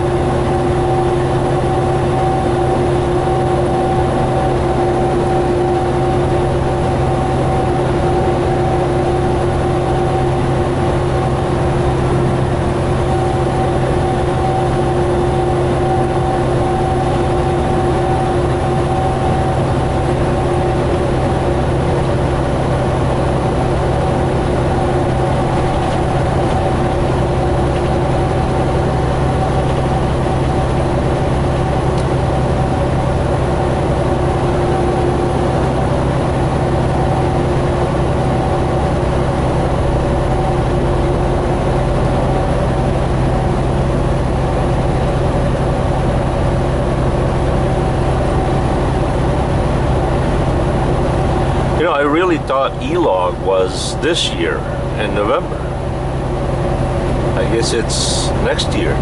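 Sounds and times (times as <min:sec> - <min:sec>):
truck engine drone: 0:00.0 - 0:59.0.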